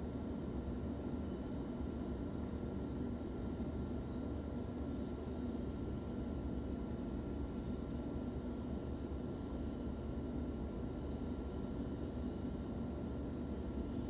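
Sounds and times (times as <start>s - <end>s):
electric train carriage hum: 0.0s - 14.0s
faint constant whine: 0.0s - 14.0s.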